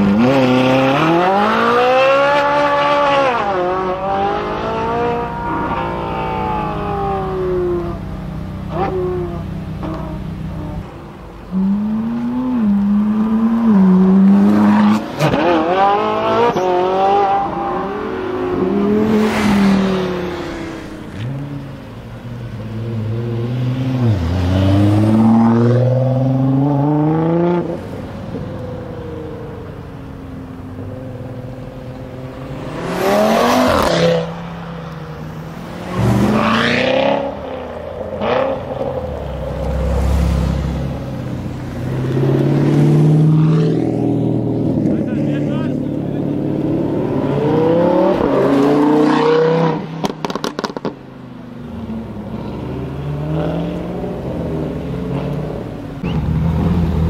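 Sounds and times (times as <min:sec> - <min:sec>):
car engines accelerating hard: 0:00.0 - 0:57.0
cars passing by: 0:00.0 - 0:57.0.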